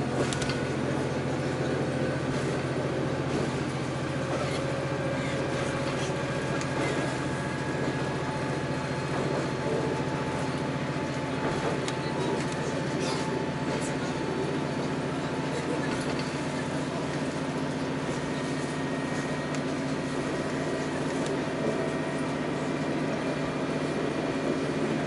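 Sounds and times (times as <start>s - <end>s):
diesel engine drone: 0.0s - 25.0s.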